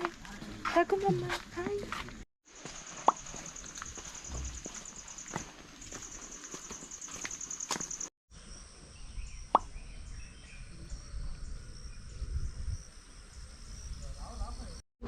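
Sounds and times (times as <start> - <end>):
insects trilling: 2.5 - 14.8.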